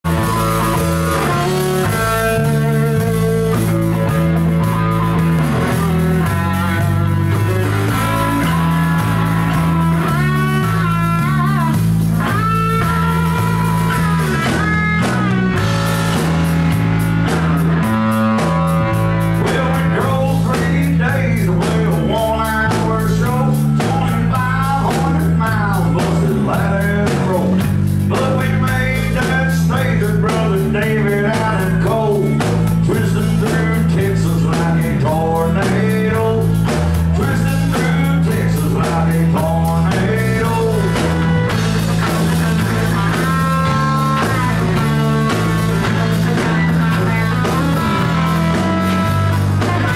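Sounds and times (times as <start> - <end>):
country rock band playing live: 0.0 - 49.9.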